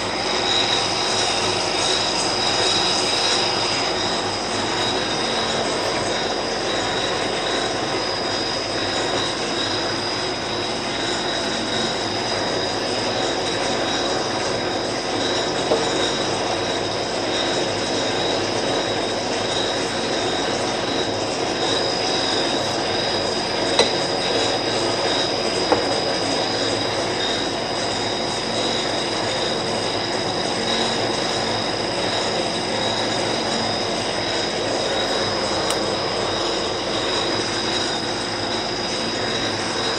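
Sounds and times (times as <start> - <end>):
high whine: 0.0 - 39.9
lathe running: 0.0 - 39.9.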